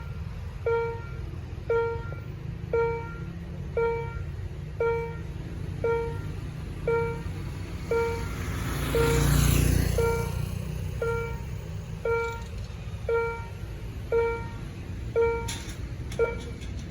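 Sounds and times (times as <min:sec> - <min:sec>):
low steady rumble: 0:00.0 - 0:08.3, 0:10.0 - 0:16.9
level-crossing warning bell: 0:00.0 - 0:16.9.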